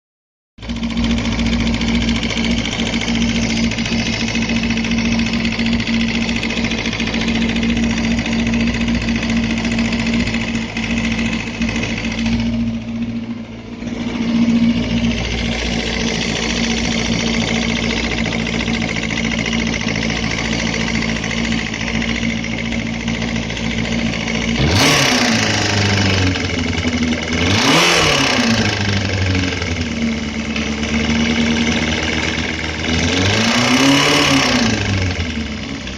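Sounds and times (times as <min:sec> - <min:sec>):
motorcycle engine idling with knock: 0:00.6 - 0:27.9, 0:28.5 - 0:34.0
engine revving: 0:00.6 - 0:35.9.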